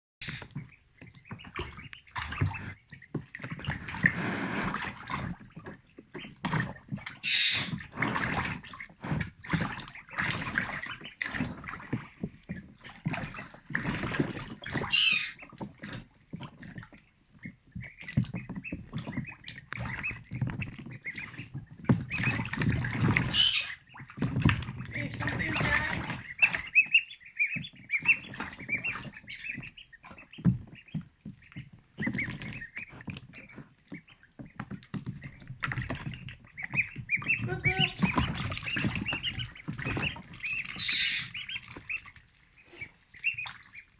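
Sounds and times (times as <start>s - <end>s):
ducklings splashing in water: 0.2s - 43.9s.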